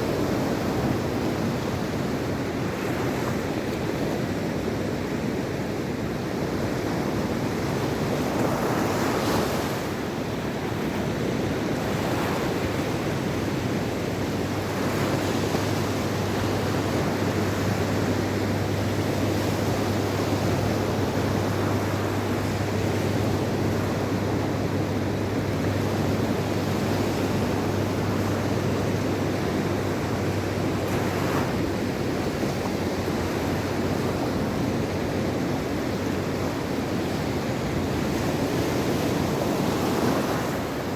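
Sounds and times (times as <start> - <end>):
surf washing on shore: 0.0 - 40.9
waves breaking: 6.5 - 40.9.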